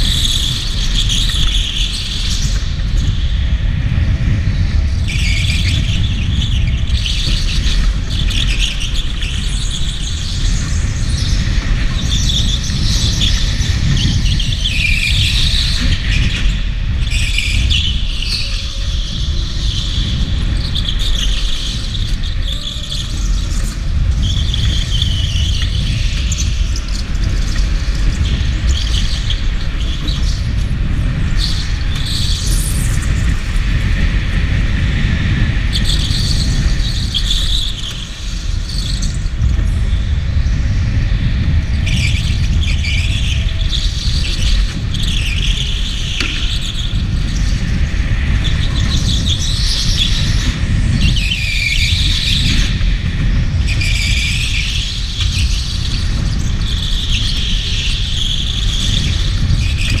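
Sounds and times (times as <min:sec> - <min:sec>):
go-kart running rumble: 0:00.0 - 1:00.0
go-kart tyres squealing: 0:00.0 - 1:00.0.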